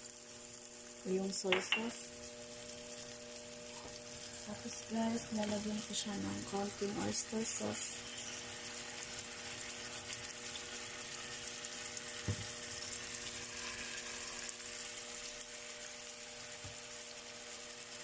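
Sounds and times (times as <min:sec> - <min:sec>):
steady hum: 0:00.0 - 0:16.6
chicken sizzling in a pan: 0:00.0 - 0:18.0.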